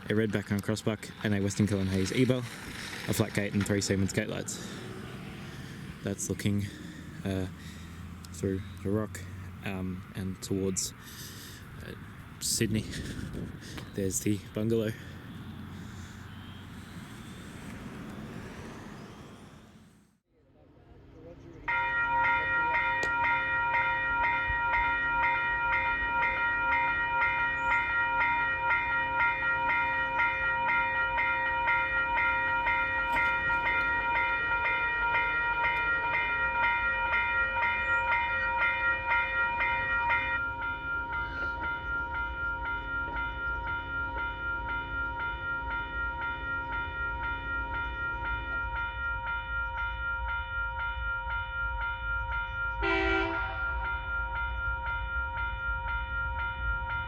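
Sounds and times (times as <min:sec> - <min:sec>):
level crossing bells ringing: 0:00.0 - 0:13.3, 0:13.9 - 0:17.3, 0:21.6 - 0:57.0.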